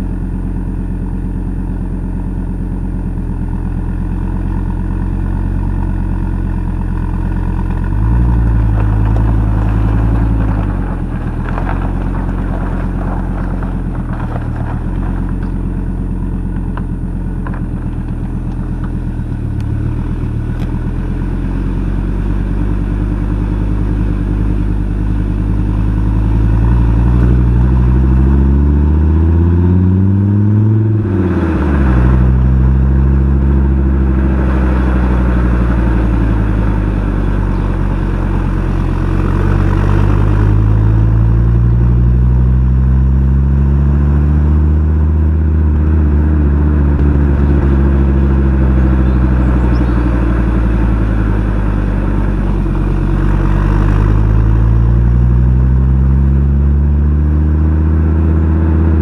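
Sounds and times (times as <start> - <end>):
car engine exhaust revving: 0.0 - 59.0.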